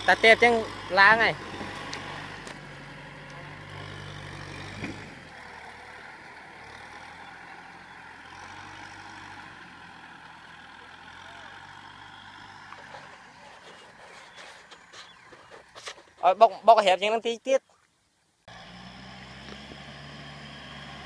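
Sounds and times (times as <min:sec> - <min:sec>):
tractor diesel engine running: 0:00.0 - 0:16.4, 0:18.5 - 0:21.0.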